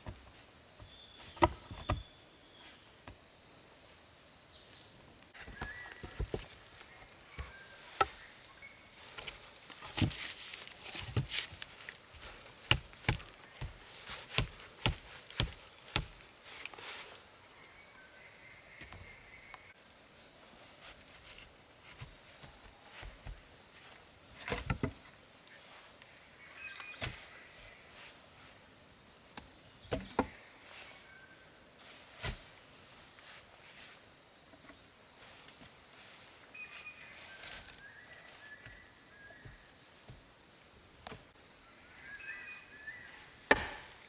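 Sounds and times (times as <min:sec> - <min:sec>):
outdoor ambience: 0:00.0 - 0:44.0.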